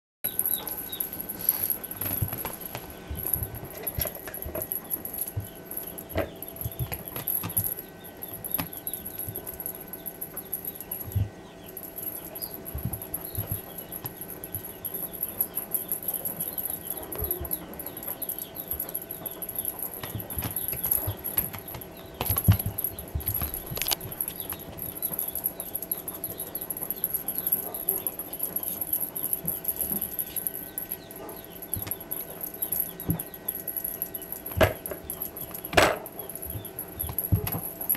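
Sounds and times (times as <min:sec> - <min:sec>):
faint steady hum: 0:00.3 - 0:37.9
toy knocks and rattles: 0:00.3 - 0:37.9.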